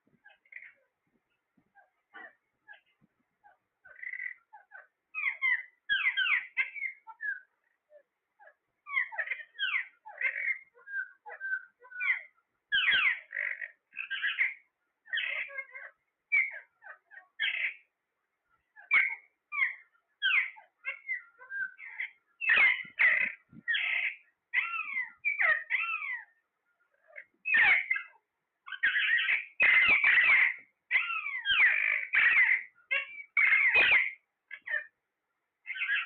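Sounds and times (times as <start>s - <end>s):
parrot squawking: 3.4s - 17.8s, 18.8s - 26.4s, 27.0s - 34.9s, 35.7s - 36.0s.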